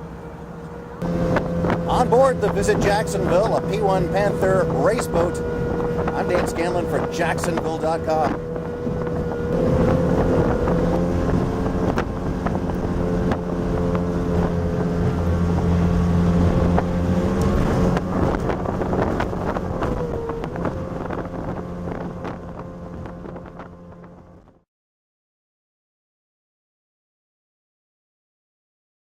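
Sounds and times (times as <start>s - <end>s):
outboard motor running: 0.0s - 24.6s
wind on microphone: 1.0s - 24.6s.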